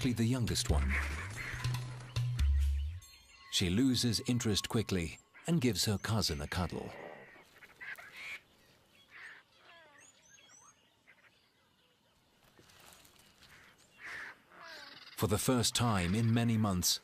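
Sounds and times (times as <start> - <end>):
bird calls: 0.0 - 17.0.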